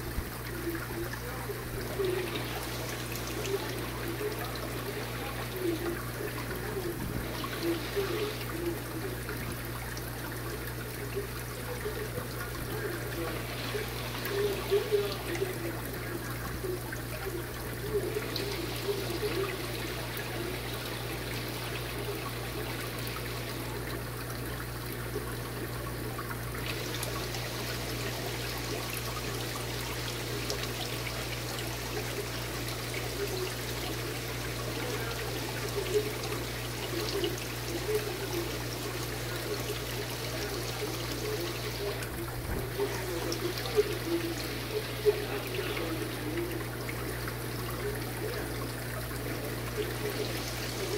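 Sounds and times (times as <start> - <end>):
aquarium water trickling and bubbling: 0.0 - 50.9
low equipment hum: 0.0 - 50.9
water gurgle: 0.0 - 50.9.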